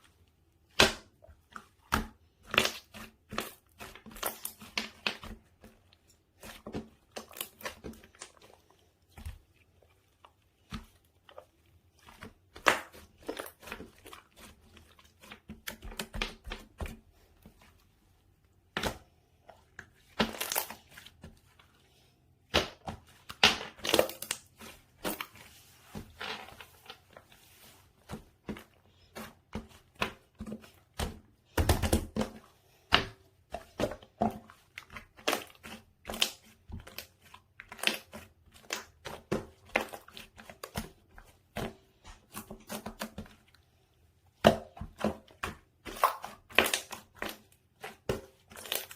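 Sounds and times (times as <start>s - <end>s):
slime squishing and crackling: 0.1s - 17.1s, 19.9s - 21.8s, 22.4s - 32.3s, 32.9s - 43.5s, 44.4s - 48.9s.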